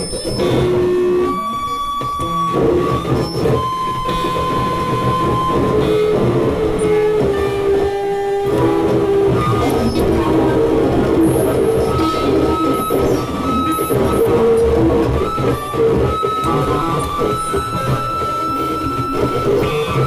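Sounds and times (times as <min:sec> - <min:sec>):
modular synthesizer noise and tones: 0:00.0 - 0:20.0.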